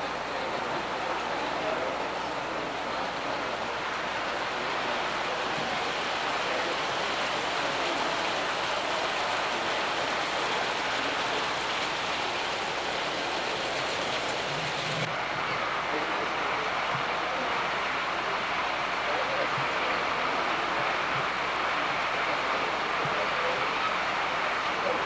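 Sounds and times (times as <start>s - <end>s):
model train rolling on track: 0.0s - 25.0s.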